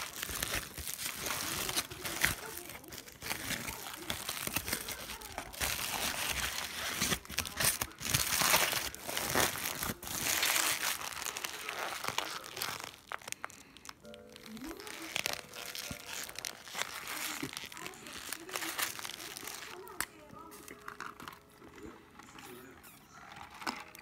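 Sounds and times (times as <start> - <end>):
paper wrapper crinkling: 0.0 - 24.0.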